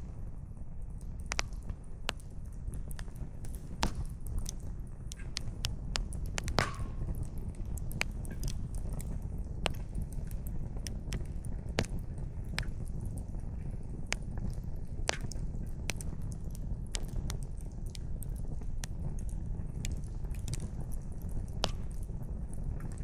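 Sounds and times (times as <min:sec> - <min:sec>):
campfire crackling: 0:00.1 - 0:23.0.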